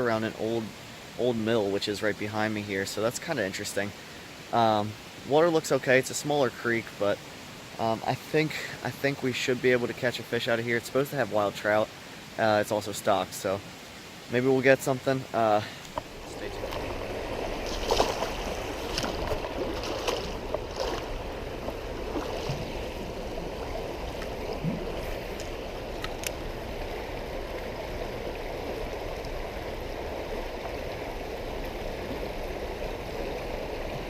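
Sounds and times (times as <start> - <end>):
creek water flowing: 0.0 - 34.0.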